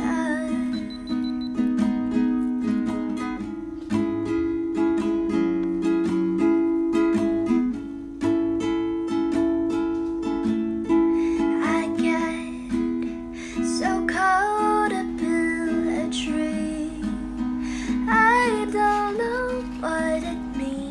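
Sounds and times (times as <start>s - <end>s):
strummed acoustic string instrument: 0.0s - 20.9s.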